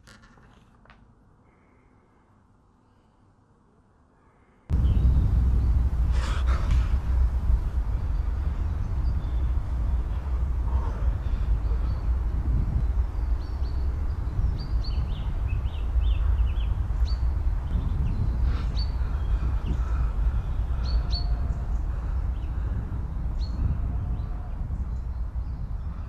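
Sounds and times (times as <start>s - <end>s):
small birds chirping: 4.2s - 26.0s
wind buffeting microphone: 4.7s - 26.0s.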